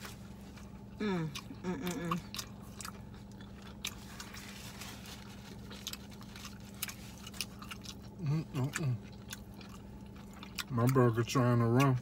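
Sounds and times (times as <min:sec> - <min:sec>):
chewing and biting into burger: 0:00.0 - 0:12.0
low hum inside car: 0:00.0 - 0:12.0.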